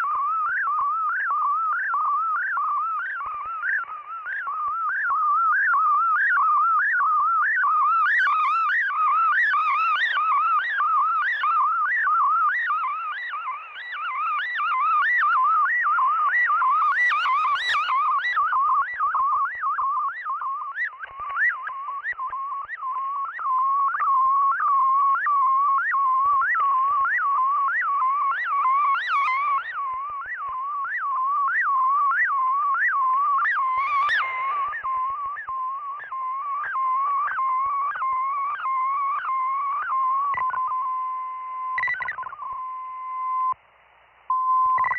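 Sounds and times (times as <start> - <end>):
warbling radio tone: 0.0 - 43.6, 44.3 - 44.9.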